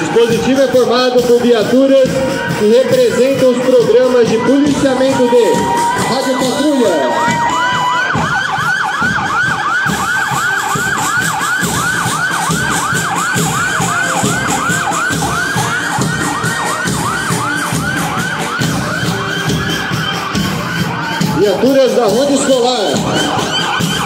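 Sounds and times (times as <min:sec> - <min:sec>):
police siren yelping: 0:00.0 - 0:24.0.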